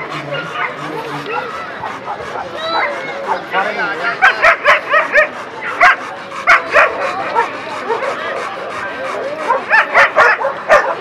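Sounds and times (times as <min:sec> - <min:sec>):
crowd chatter: 0:00.0 - 0:11.0
dogs barking: 0:00.0 - 0:11.0.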